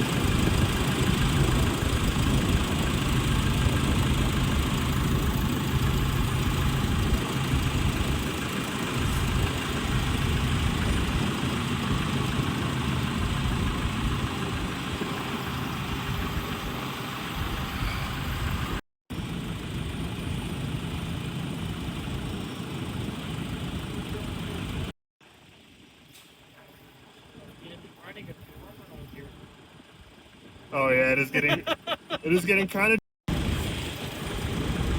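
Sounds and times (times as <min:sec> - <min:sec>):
truck engine running: 0:00.0 - 0:32.4, 0:33.3 - 0:34.9.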